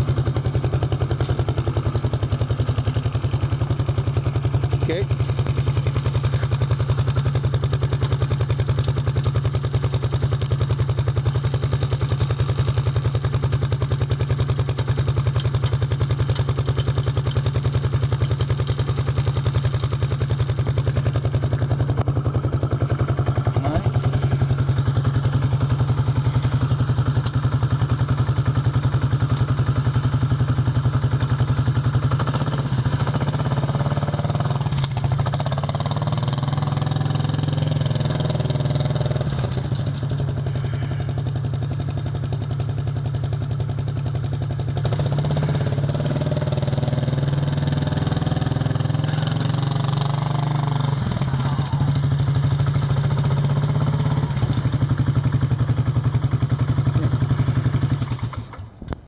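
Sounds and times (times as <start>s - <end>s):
atv engine running steadily: 0.0s - 59.0s.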